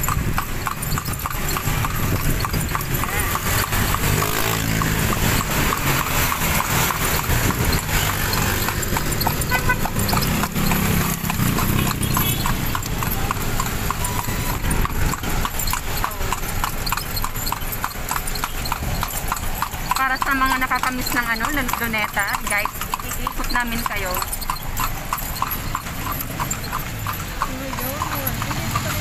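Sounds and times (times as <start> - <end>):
city traffic: 0.0 - 29.0
hooves clip-clopping on asphalt: 0.0 - 29.0.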